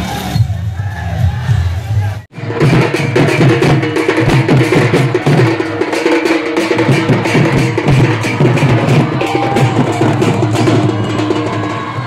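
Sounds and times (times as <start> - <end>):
fast even drumming: 2.3 - 12.0.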